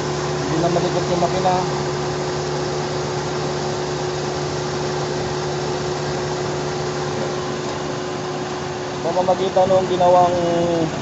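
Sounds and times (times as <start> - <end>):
car engine idling with whine: 0.0 - 11.0.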